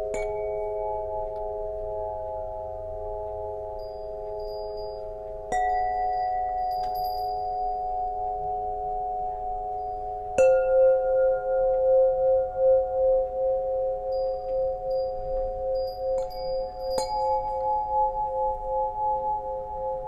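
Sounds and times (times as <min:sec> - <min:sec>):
tuning pipes ringing: 0:00.0 - 0:20.0.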